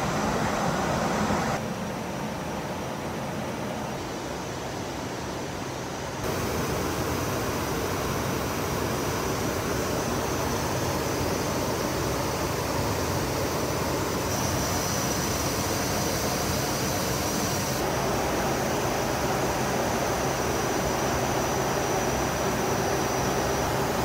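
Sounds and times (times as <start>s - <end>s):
airflow rush: 0.0s - 24.0s
faint high whine: 0.0s - 24.0s
jet engine hum: 0.0s - 24.0s.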